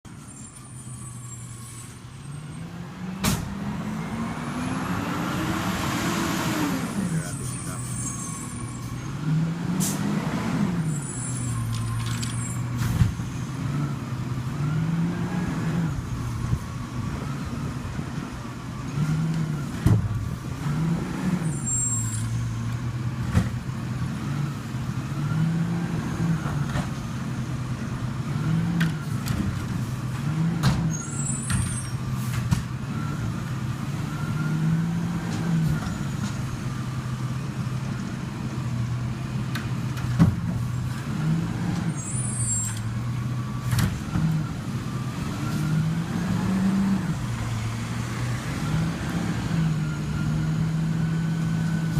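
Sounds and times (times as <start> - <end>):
rubbish truck engine running: 0.1 - 51.9.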